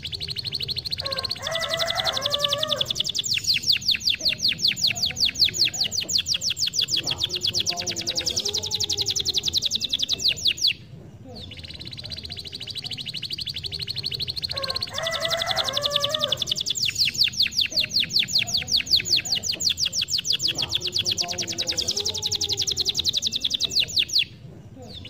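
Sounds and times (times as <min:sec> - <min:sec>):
canary singing trill: 0:00.0 - 0:25.0.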